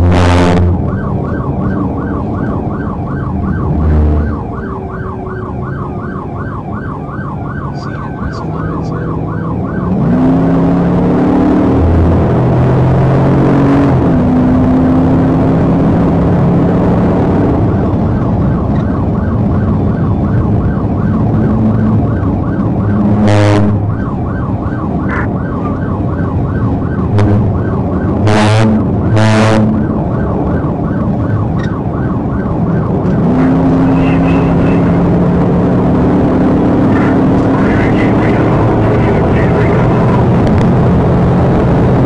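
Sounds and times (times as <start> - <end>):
car engine accelerating: 0.0 - 42.0
police siren yelping: 0.0 - 42.0
road noise: 0.0 - 42.0.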